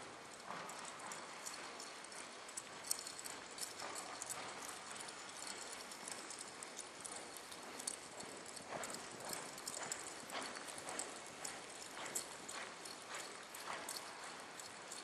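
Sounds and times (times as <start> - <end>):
hooves on sand: 0.0 - 15.0.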